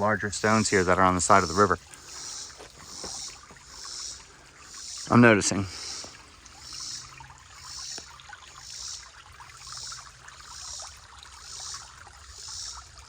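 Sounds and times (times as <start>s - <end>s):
creek water trickling over stones: 0.0s - 13.0s.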